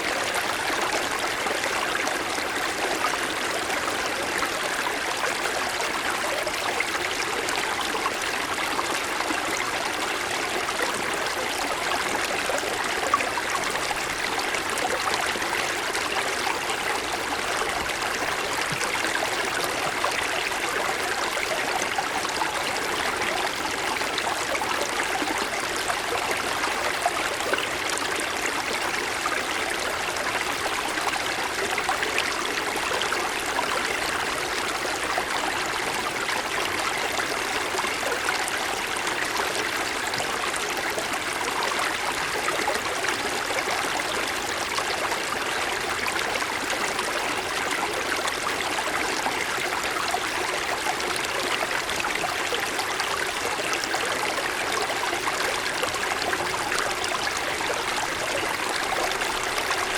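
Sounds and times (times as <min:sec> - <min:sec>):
stream splashing and trickling: 0:00.0 - 0:59.9.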